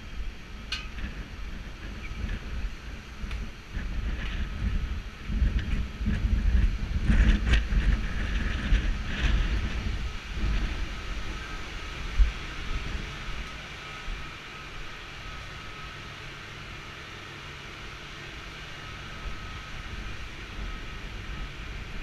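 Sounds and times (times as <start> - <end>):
faint high whine: 0.0 - 22.0
machinery drone: 0.0 - 22.0
wind buffeting microphone: 0.0 - 22.0.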